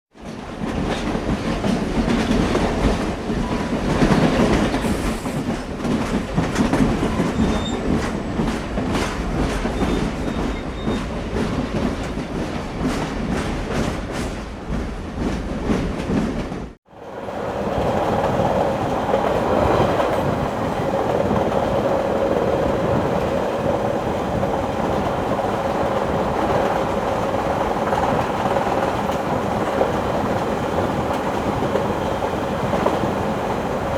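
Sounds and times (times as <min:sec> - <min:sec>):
train rumbling on rails: 0:00.1 - 0:33.9
wheels clickety-clack over rail joints: 0:00.1 - 0:33.9.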